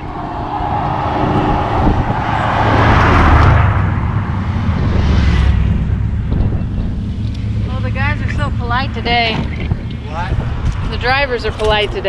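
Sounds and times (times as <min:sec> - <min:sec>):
vehicle driving past: 0:00.0 - 0:11.6
steady low rumble: 0:00.0 - 0:12.0.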